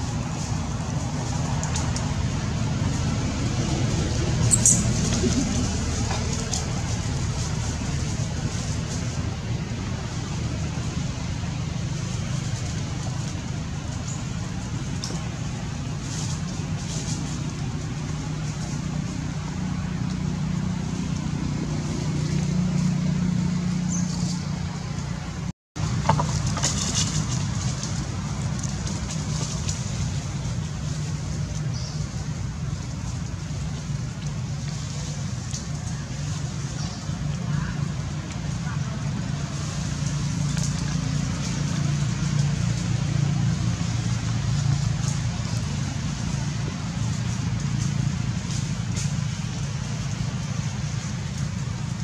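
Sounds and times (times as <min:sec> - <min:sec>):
vehicle engine droning: 0:00.0 - 0:52.0.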